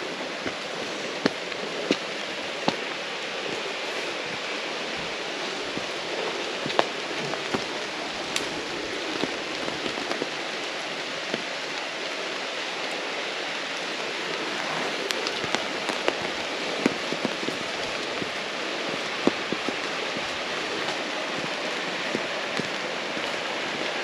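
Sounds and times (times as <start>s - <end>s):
raindrops ticking: 0.0s - 24.0s
steady rain hiss: 0.0s - 24.0s.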